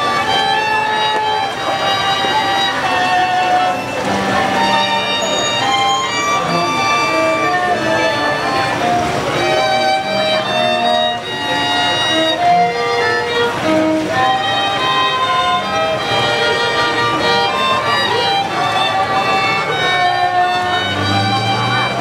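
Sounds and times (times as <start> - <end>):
string quartet playing: 0.0 - 22.0.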